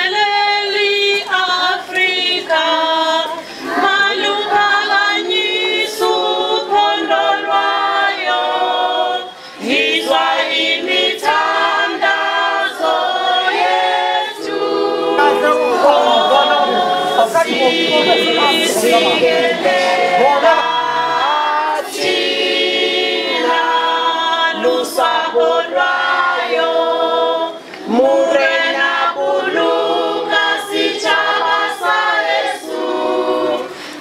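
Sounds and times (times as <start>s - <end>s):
children singing unaccompanied: 0.0s - 33.8s.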